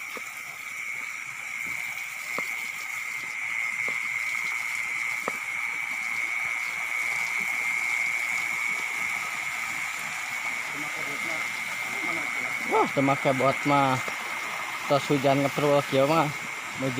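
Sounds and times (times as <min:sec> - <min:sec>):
crickets chirping chorus: 0:00.0 - 0:16.9.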